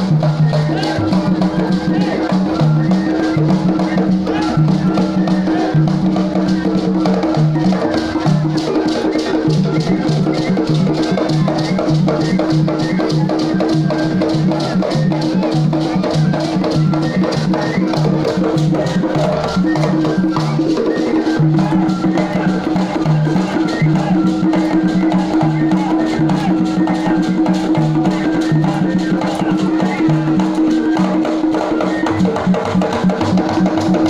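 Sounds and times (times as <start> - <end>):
fast hand-drum strokes: 0.0 - 34.0.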